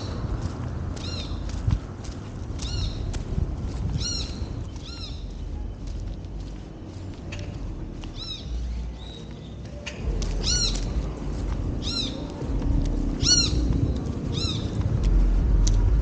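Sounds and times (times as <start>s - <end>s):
low rumble: 0.0s - 9.0s, 10.0s - 16.0s.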